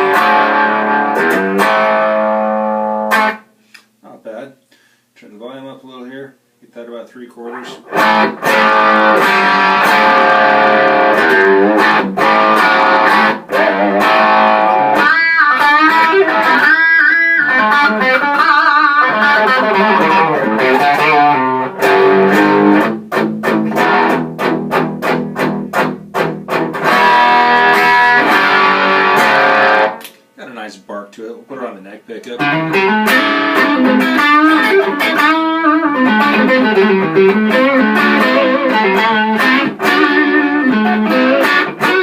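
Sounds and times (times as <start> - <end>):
electric guitar through tube amp: 0.0 - 3.5, 7.5 - 30.0, 32.3 - 42.0.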